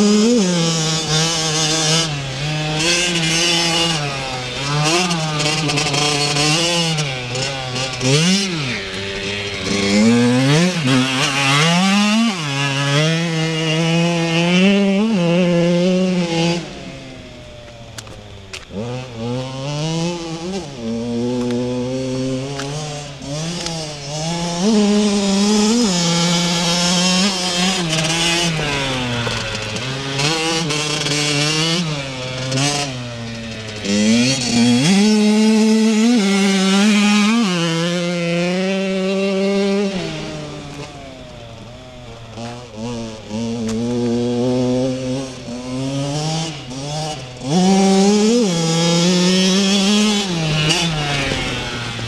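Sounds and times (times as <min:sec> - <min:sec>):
motocross engine revving: 0:00.0 - 0:52.0.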